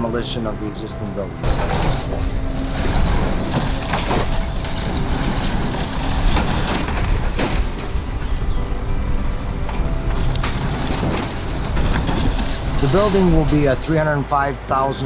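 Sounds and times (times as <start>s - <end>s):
crashing and scraping strikes: 1.4s - 14.1s
heavy machinery rumbling: 1.4s - 14.2s.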